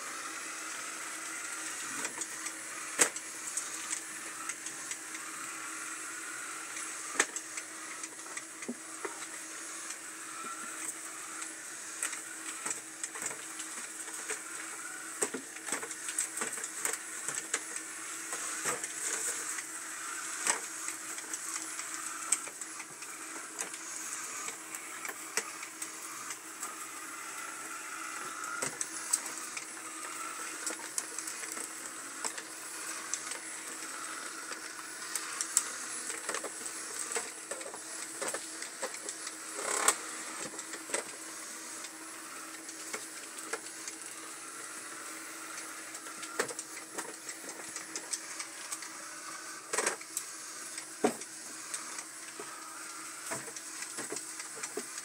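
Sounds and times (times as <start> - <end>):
robot vacuum cleaner whirring: 0.0 - 55.0.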